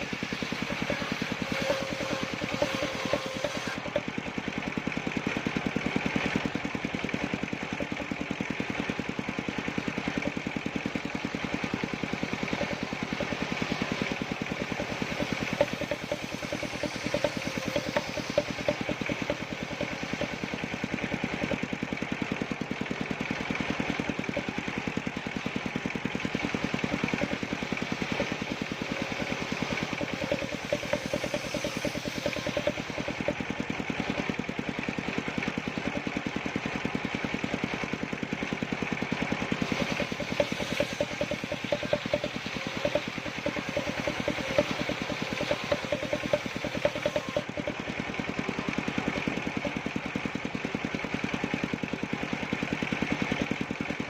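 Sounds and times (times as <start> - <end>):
small combustion engine running: 0.0 - 54.0.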